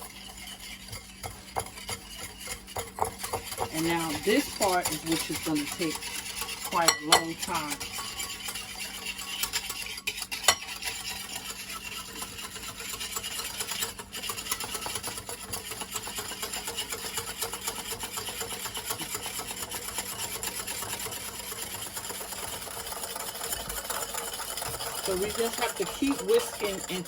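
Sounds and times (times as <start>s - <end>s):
whisk scraping a bowl: 0.0s - 27.0s.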